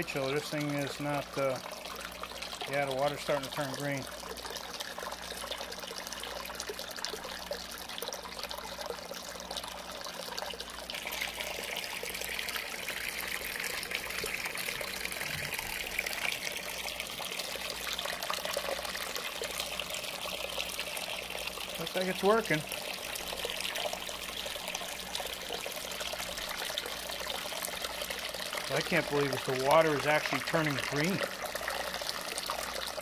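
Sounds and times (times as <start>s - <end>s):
liquid splashing into water: 1.5s - 33.0s.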